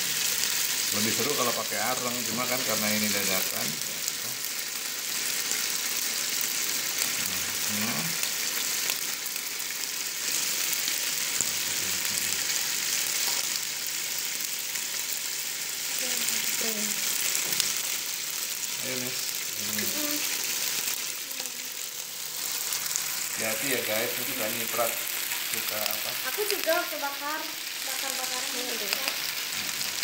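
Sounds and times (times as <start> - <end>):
skewers sizzling on grill pan: 0.0 - 30.0.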